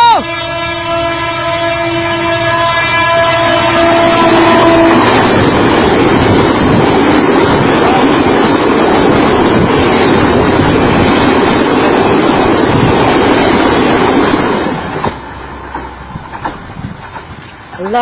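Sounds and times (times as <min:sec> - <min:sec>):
train rumbling and rattling past: 0:00.0 - 0:18.0.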